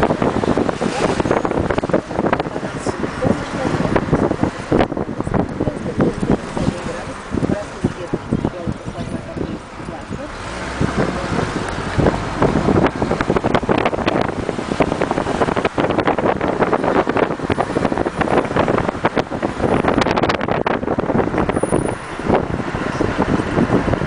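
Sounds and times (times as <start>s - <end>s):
road noise: 0.0s - 24.0s
wind buffeting microphone: 0.0s - 24.0s.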